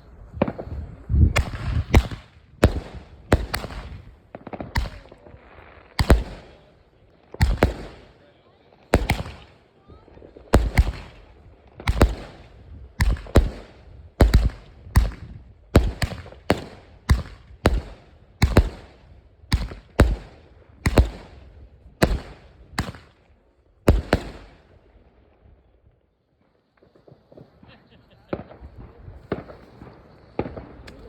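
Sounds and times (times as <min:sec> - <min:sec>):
fireworks exploding: 0:00.0 - 0:25.7, 0:26.4 - 0:31.0.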